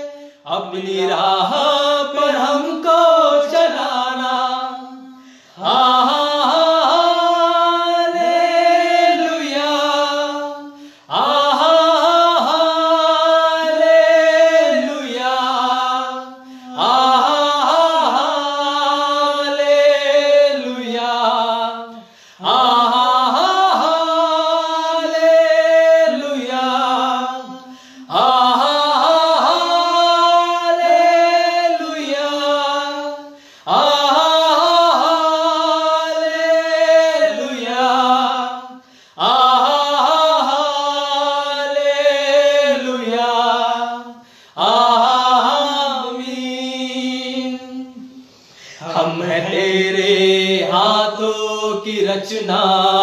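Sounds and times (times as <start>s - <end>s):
men singing without instruments: 0.0s - 53.0s.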